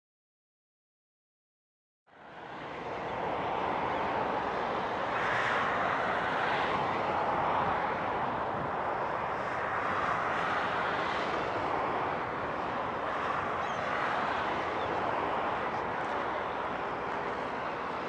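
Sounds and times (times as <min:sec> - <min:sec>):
jet engines rushing: 0:02.3 - 0:18.0.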